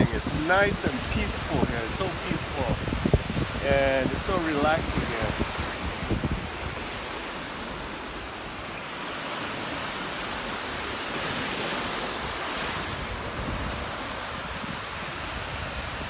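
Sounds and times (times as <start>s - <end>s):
ocean surf washing ashore: 0.0s - 16.0s
wind rumbling on microphone: 0.0s - 16.0s.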